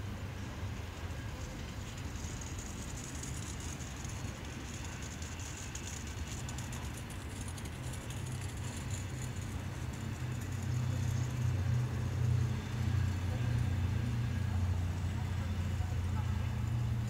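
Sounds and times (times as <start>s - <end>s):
diesel locomotive engine humming: 0.0s - 17.0s.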